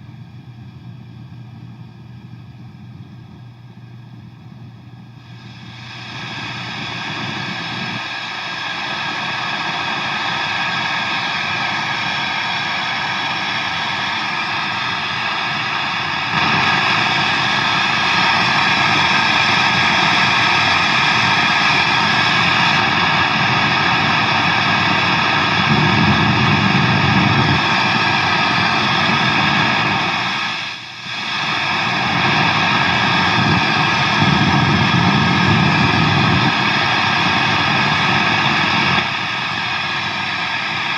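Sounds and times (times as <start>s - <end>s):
amplifier static hiss: 0.0s - 40.9s.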